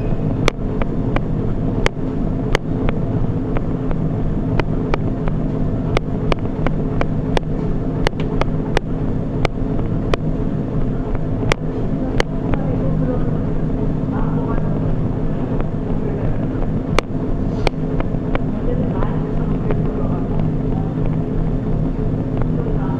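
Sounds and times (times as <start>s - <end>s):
treadmill hum: 0.0s - 22.9s.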